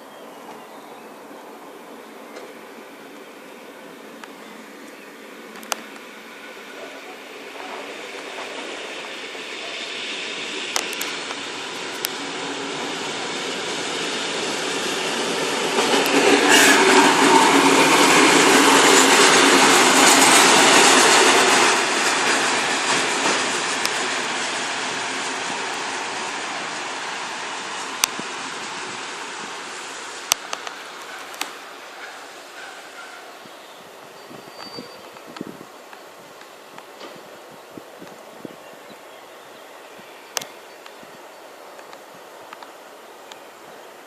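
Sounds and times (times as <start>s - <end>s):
diesel railcar passing: 0.0s - 44.0s.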